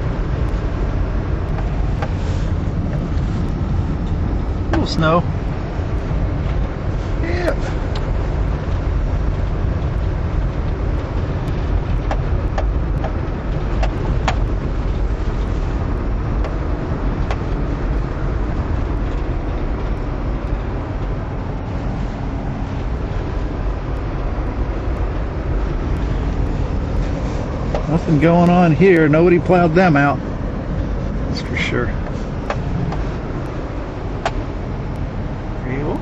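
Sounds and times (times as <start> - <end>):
vehicle driving on snow: 0.0 - 36.0.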